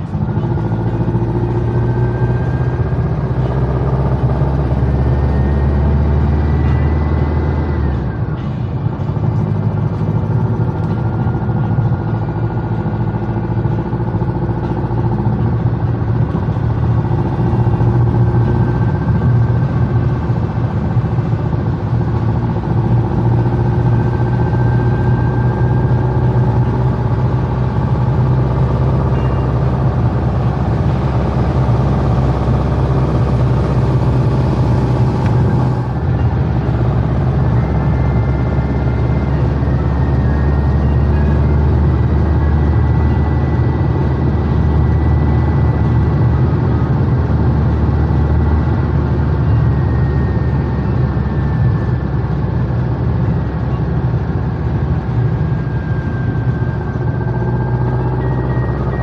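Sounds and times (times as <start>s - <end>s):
car engine running: 0.0s - 59.0s
high engine whine: 0.0s - 59.0s.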